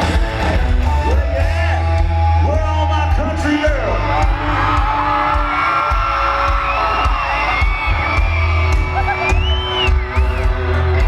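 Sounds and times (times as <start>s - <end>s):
crowd whooping: 0.0s - 11.0s
live country band: 0.0s - 11.0s.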